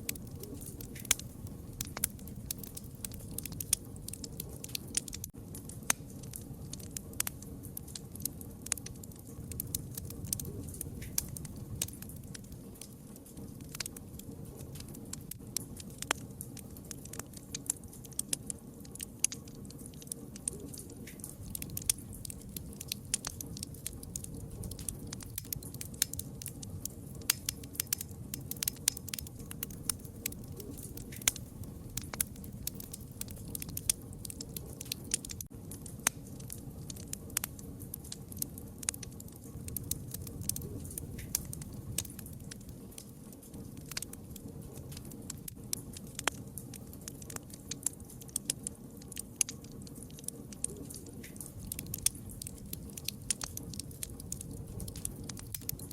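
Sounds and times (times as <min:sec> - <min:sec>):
low rumble of flames: 0:00.0 - 0:55.9
wood fire crackling: 0:00.0 - 0:55.9.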